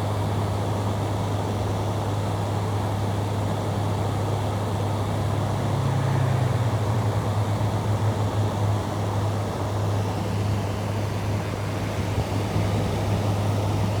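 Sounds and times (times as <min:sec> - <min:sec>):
fan air rushing: 0:00.0 - 0:14.0.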